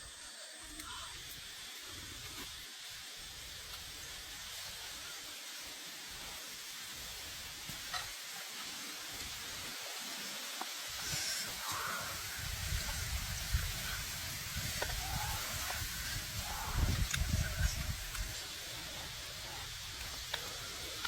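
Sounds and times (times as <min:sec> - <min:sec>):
food sizzling: 0:00.1 - 0:21.0.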